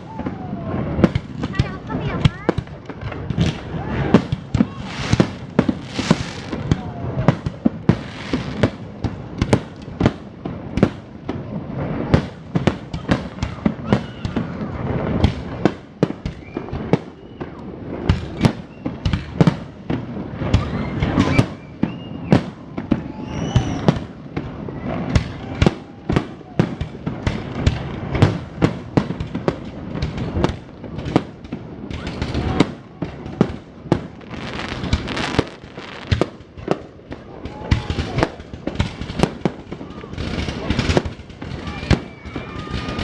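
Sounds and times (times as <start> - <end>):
fireworks bangs: 0.0 - 43.0
fireworks crackling: 0.0 - 43.0.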